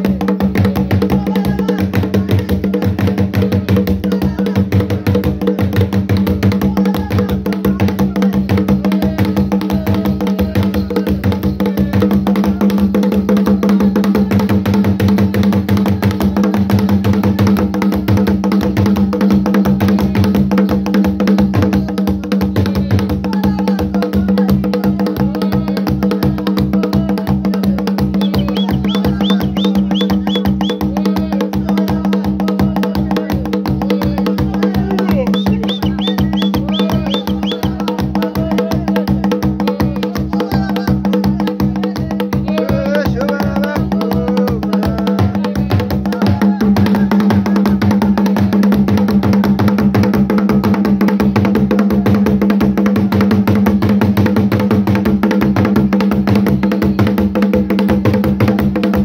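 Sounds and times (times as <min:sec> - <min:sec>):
dance music with fast drum beat: 0:00.0 - 0:59.0.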